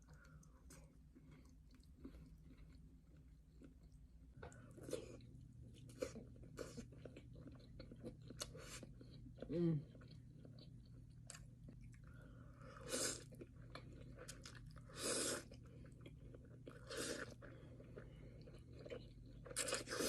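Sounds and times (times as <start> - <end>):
person chewing close up: 0.0 - 20.0.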